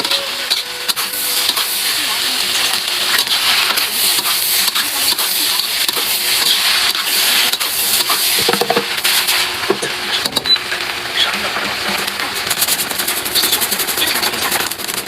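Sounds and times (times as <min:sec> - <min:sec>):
rice sizzling in a pan: 0:00.0 - 0:15.0.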